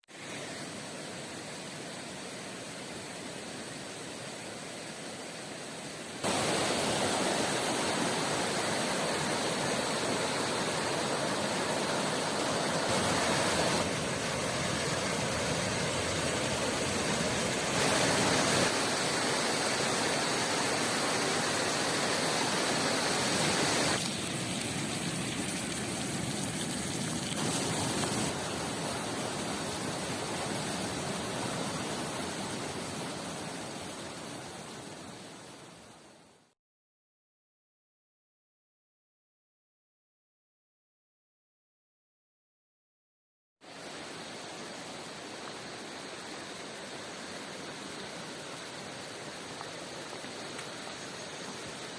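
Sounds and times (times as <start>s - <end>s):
river water flowing: 0.1s - 36.4s, 43.6s - 51.9s.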